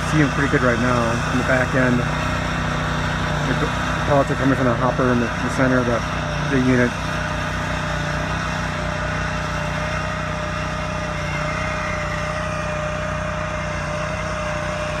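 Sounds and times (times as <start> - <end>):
machine engine running: 0.0 - 15.0
steady whine: 0.0 - 15.0.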